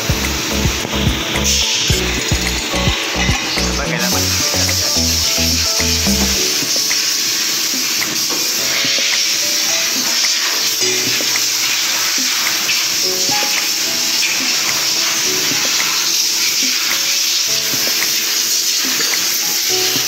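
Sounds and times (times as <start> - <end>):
background music with held notes: 0.0 - 20.0
high hiss: 0.0 - 20.0.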